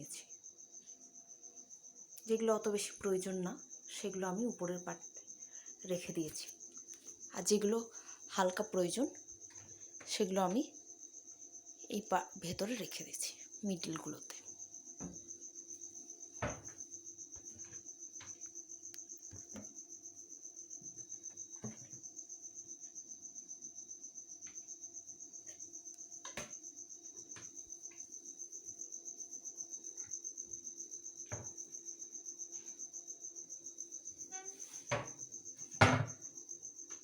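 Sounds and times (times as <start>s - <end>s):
cricket chirping: 0.0s - 37.0s
faint steady hum: 0.0s - 37.0s.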